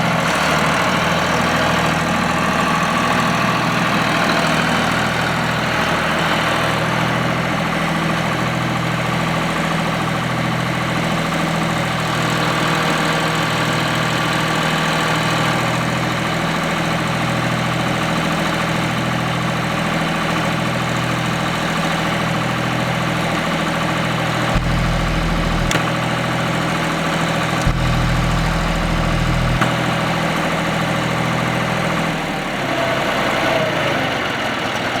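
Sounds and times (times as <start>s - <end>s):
tractor engine idling: 0.0s - 32.7s.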